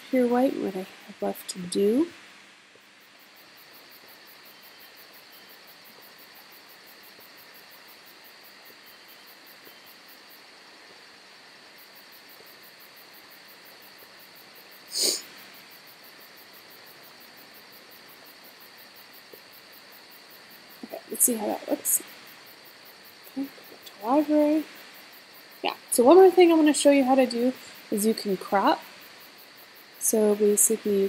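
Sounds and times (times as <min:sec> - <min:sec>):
room hiss: 0:00.0 - 0:31.0.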